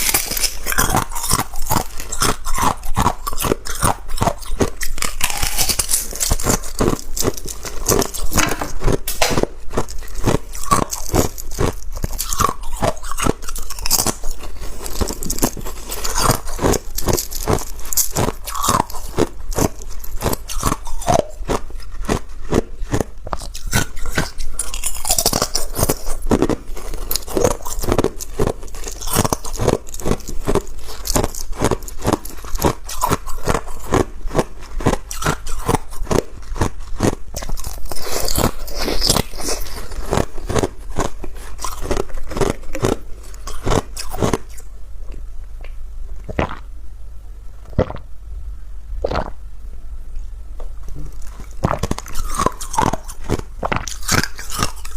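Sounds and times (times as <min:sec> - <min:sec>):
person chewing ice: 0:00.0 - 0:46.7, 0:47.7 - 0:48.1, 0:49.0 - 0:49.4, 0:50.9 - 0:54.9.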